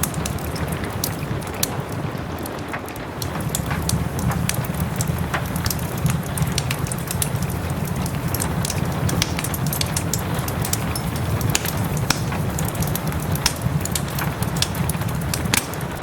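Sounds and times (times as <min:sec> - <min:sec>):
soft rain: 0:00.0 - 0:16.0
wood fire crackling and popping: 0:00.0 - 0:16.0.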